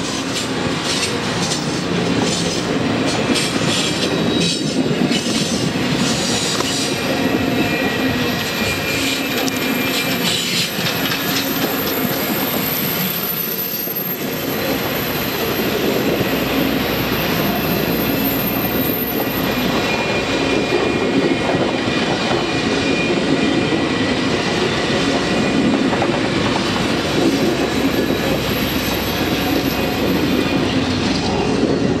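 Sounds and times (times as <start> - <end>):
train wheels rumbling on track: 0.0 - 32.0
high wheel squeal: 0.1 - 25.8, 26.6 - 32.0.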